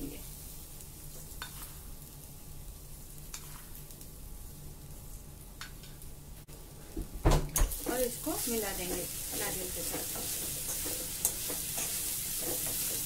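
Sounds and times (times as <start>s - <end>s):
coconut sizzling in a pan: 0.0s - 13.0s.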